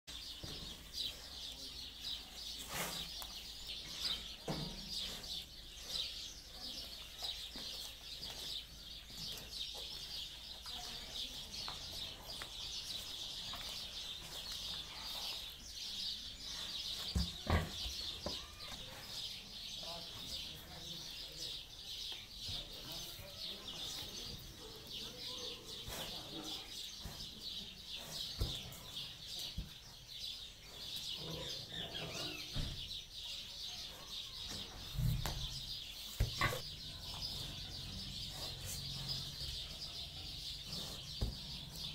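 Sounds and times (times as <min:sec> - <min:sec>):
birds chirping: 0:00.1 - 0:41.9.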